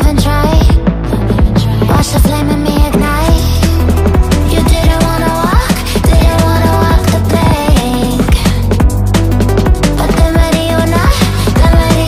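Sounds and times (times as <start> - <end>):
instrumental music with deep bass: 0.0 - 12.0.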